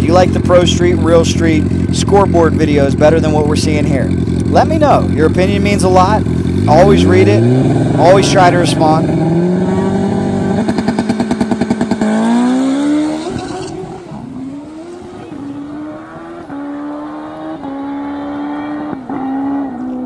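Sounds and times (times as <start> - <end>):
motorcycle engine stuttering and launching: 0.0 - 20.0.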